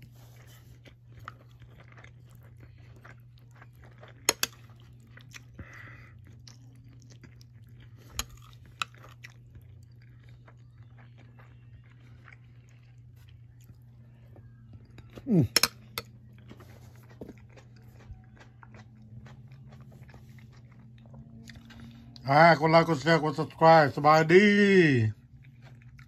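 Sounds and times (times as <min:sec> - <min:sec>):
chewing and crunching: 0:00.0 - 0:26.0
steady low hum: 0:00.0 - 0:26.0.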